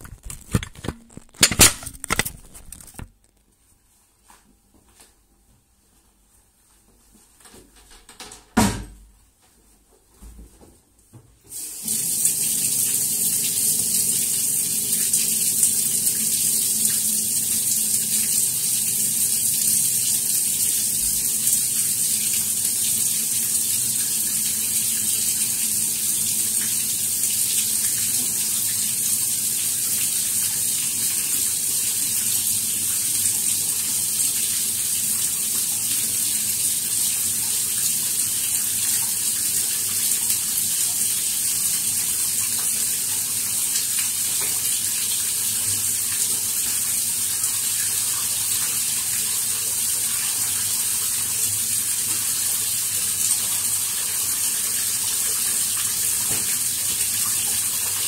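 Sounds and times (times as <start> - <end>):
tap water running into basin: 11.5 - 58.0.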